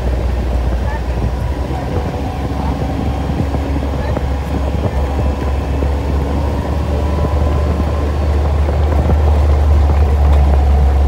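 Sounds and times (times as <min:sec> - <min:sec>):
off-road vehicle engine running: 0:00.0 - 0:11.0
wind and road noise: 0:00.0 - 0:11.0.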